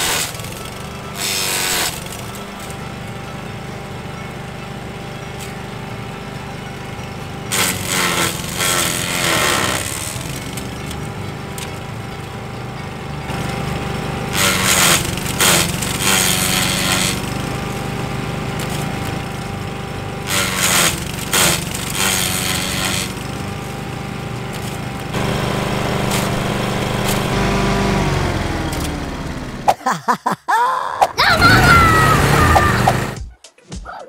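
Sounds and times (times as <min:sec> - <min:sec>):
lawn mower engine running: 0:00.0 - 0:29.8, 0:31.2 - 0:33.2
mower blade shredding branch: 0:00.0 - 0:29.8, 0:31.2 - 0:33.2.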